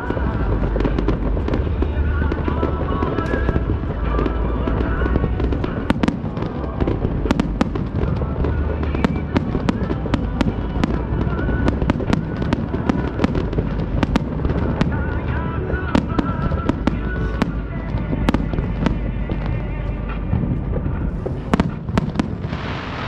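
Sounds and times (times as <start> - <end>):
fireworks bursts rumbling: 0.0 - 23.0
fireworks crackling: 0.0 - 23.0.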